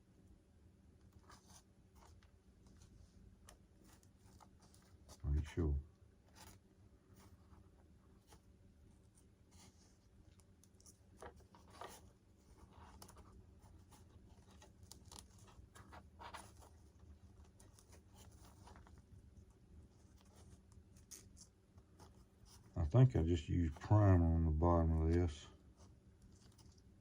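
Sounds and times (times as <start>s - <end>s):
faint scratching and rustling: 0.9s - 27.0s.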